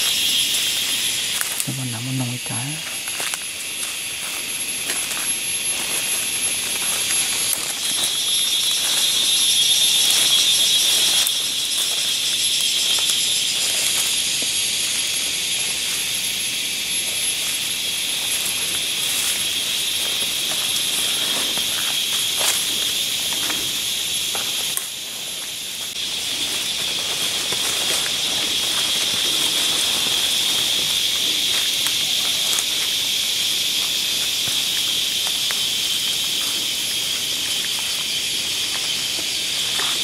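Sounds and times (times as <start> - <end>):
footsteps rustling through undergrowth: 0.0 - 40.0
forest insects droning: 0.0 - 40.0.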